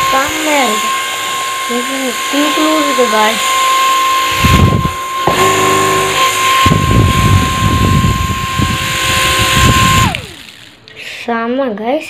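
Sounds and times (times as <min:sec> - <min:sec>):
propeller motor whining: 0:00.0 - 0:11.0.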